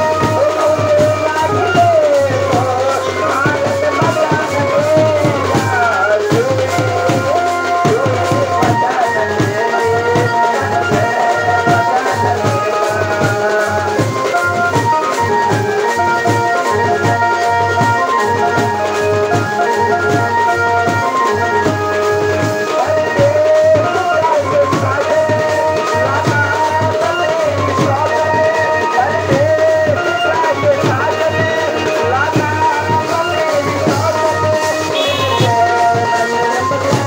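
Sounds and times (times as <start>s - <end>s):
band music over horn loudspeakers: 0.0s - 37.0s
steady drum beat: 0.0s - 37.0s.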